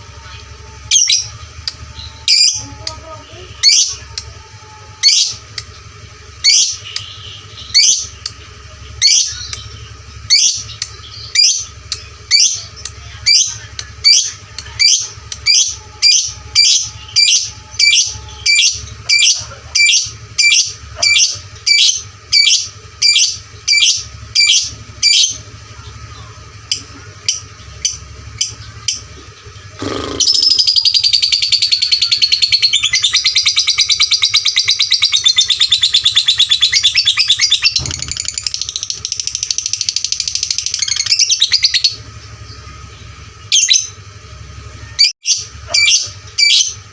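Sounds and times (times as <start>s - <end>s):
lovebird chirping and chattering: 0.1s - 44.0s, 45.0s - 46.9s.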